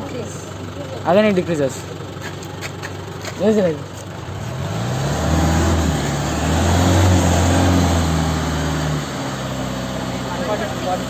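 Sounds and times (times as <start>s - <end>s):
car engine revving: 1.2s - 11.0s.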